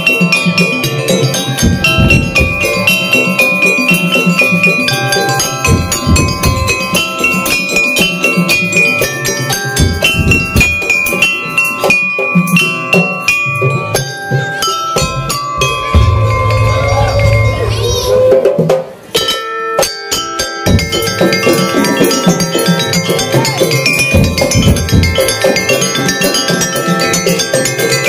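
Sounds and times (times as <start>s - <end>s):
drums and percussion beat: 0.0s - 28.0s
struck metal bells and metallophone: 0.0s - 28.0s.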